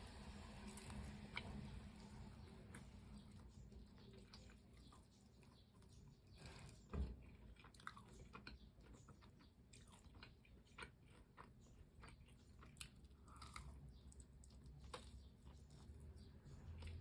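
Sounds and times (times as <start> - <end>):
chewing and crunching fried chicken: 0.0 - 17.0.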